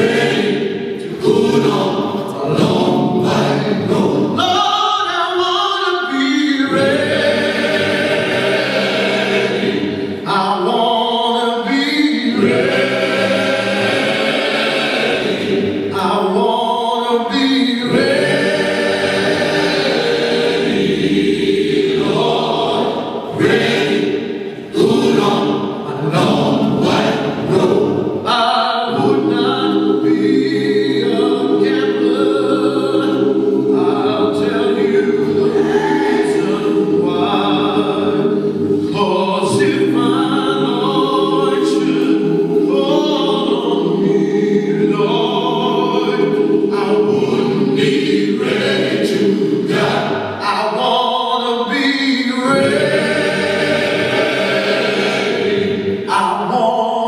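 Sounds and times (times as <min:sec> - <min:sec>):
choir singing over loudspeaker: 0:00.0 - 0:57.0.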